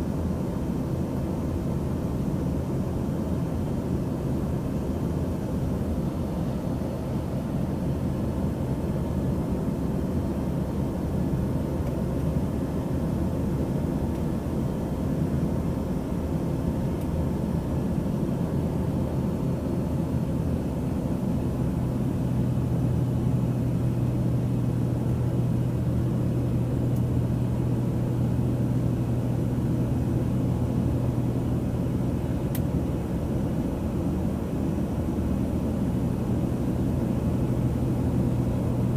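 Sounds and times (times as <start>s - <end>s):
airplane cabin rumble: 0.0s - 38.9s
low steady hum: 0.0s - 38.9s.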